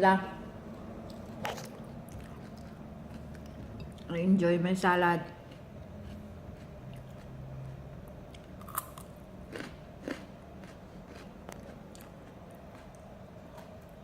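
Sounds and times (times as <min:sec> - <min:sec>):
person chewing salad leaves: 0:01.0 - 0:04.1, 0:05.3 - 0:14.0.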